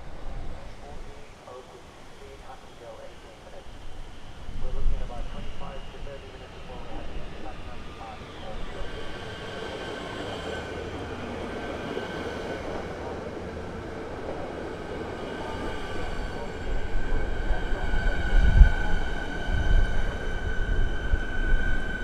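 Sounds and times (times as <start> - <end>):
electric train whine: 0.0 - 22.0.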